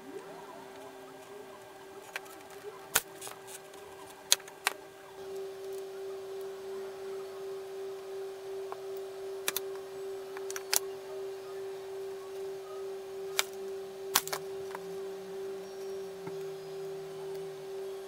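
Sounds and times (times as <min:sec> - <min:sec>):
wavering hum: 0:00.0 - 0:18.0.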